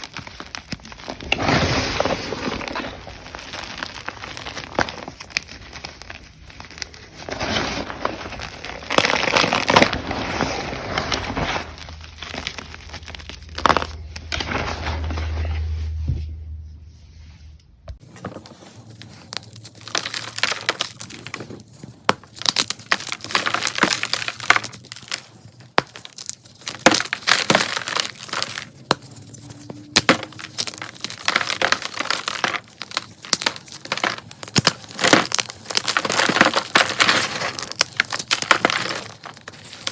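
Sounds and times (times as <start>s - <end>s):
chalk crunching and crackling: 0.0s - 15.3s, 18.4s - 39.9s.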